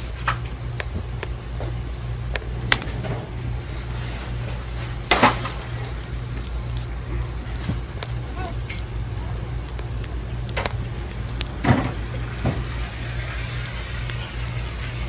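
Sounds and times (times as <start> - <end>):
fire crackling and popping: 0.0 - 15.0
low hum: 0.0 - 15.0.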